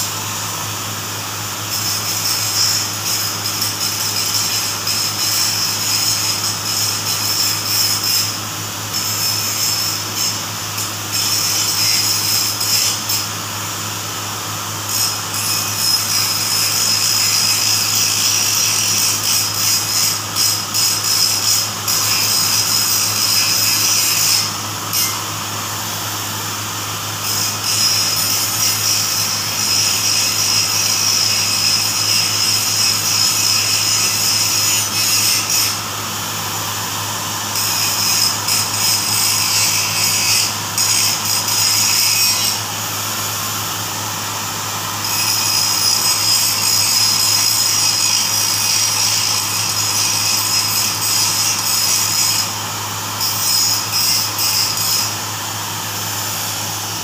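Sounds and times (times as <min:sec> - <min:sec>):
angle grinder grinding steel: 0:01.7 - 0:13.3, 0:14.9 - 0:25.5, 0:27.2 - 0:35.9, 0:36.5 - 0:43.7, 0:44.3 - 0:57.0.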